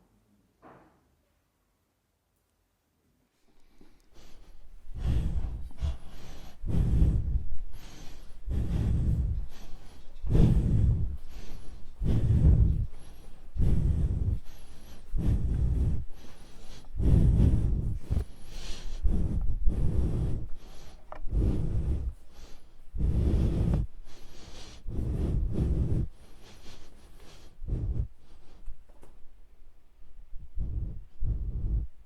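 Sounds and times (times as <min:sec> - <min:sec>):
person breathing heavily: 0:03.5 - 0:32.0.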